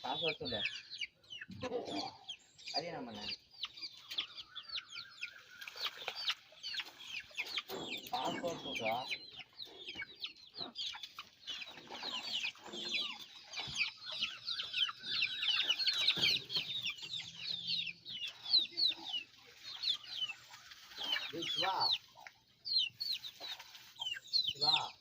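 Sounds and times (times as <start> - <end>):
chickens chirping in chorus: 0.0 - 25.0.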